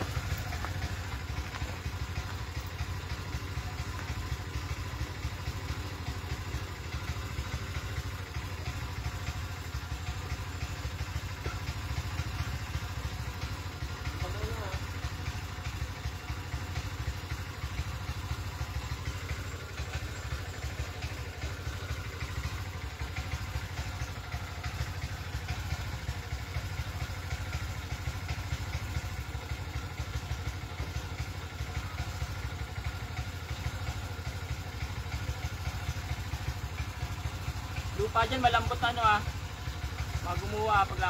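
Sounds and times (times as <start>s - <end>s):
small engine idling: 0.0s - 41.0s.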